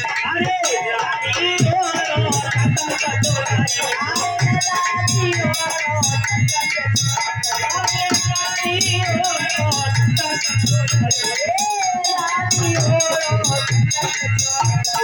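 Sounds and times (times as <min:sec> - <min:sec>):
drum beat: 0:00.0 - 0:15.0
rattling percussion: 0:00.0 - 0:15.0.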